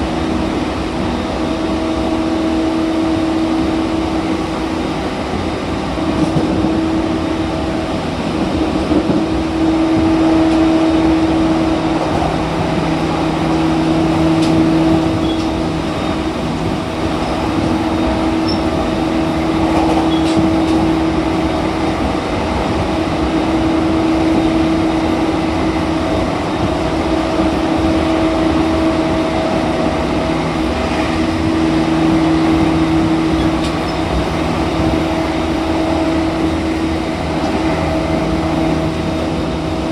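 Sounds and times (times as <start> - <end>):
train motor hum: 0.0 - 39.9
train wheel and rail noise: 0.0 - 39.9.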